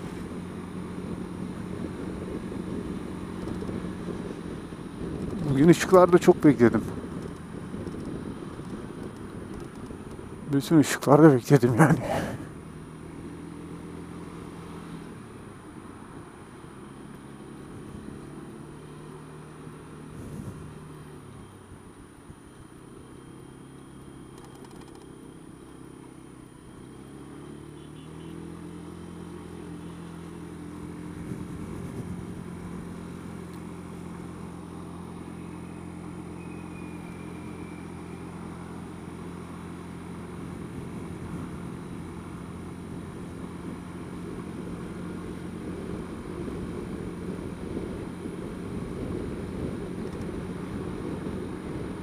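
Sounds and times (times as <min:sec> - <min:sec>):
road and wind noise: 0:00.0 - 0:52.0.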